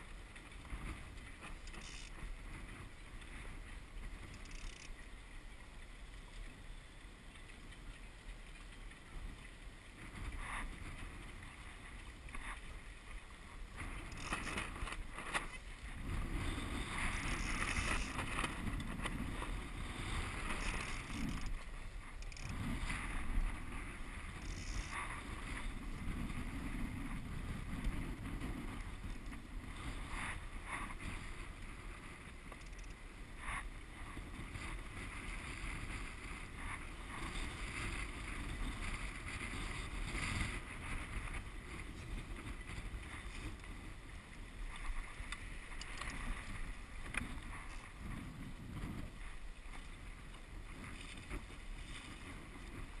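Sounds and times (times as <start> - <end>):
wind on microphone: 0.0 - 6.6, 7.4 - 53.0
water rushing along a hull: 0.0 - 53.0.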